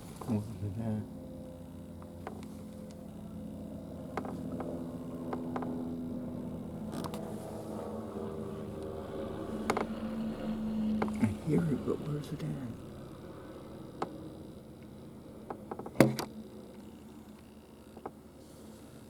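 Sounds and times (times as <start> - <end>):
distant engine droning: 0.0 - 19.0.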